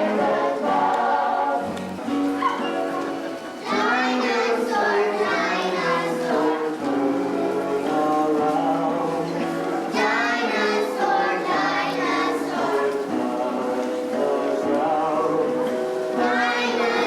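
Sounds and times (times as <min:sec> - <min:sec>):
group singing: 0:00.0 - 0:02.2, 0:03.6 - 0:17.0.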